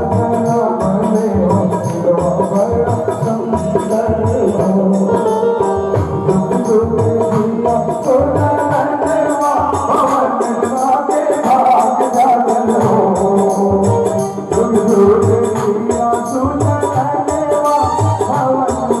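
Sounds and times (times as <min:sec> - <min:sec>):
hand drum beat: 0:00.0 - 0:19.0
held melody line: 0:00.0 - 0:19.0
jingling percussion: 0:00.0 - 0:19.0.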